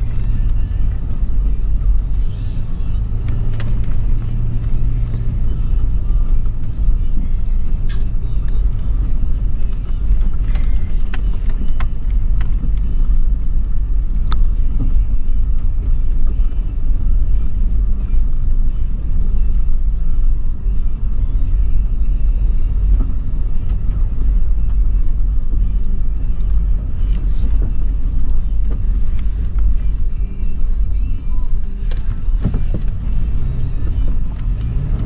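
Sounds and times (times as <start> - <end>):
car engine rumbling from inside: 0.0 - 35.0.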